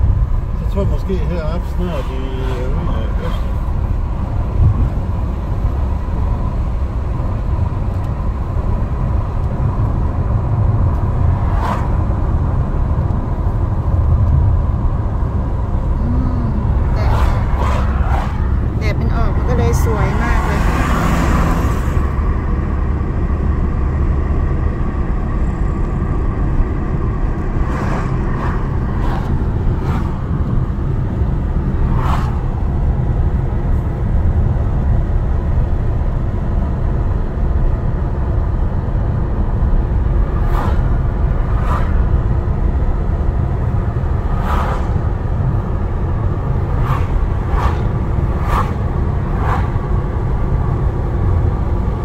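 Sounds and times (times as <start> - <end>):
car interior road rumble: 0.0 - 52.0.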